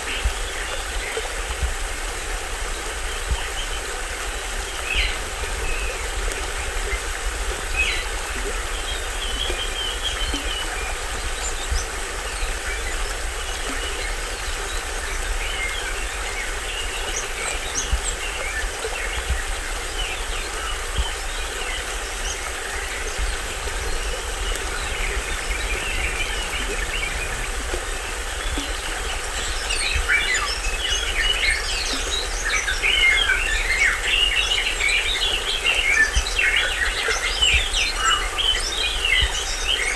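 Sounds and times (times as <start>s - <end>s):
small waterfall running: 0.0s - 39.9s
birds chirping: 3.2s - 39.9s.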